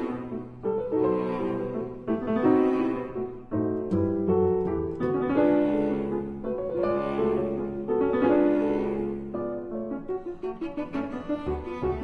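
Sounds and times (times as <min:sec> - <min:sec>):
gentle classical piano piece: 0:00.0 - 0:12.0.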